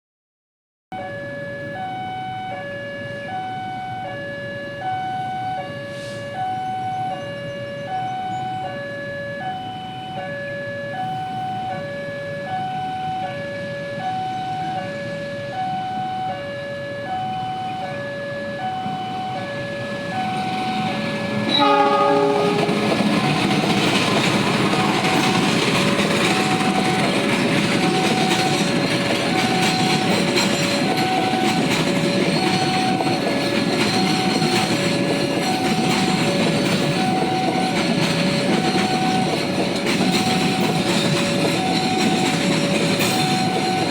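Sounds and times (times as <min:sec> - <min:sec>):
level crossing two-tone alarm: 0:01.0 - 0:43.9
train arriving: 0:04.7 - 0:43.9.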